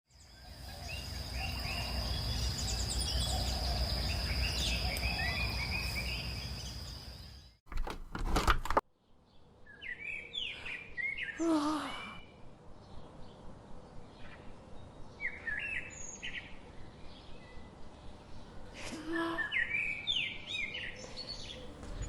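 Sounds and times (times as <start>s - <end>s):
small birds chirping: 0.1s - 7.6s, 9.0s - 22.0s.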